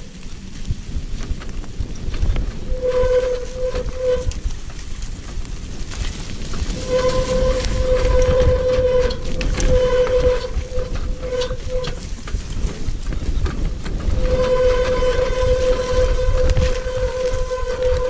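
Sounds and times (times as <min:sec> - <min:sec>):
tyres rumbling on grass: 0:00.0 - 0:18.0
wheelchair motor whine: 0:02.7 - 0:18.0.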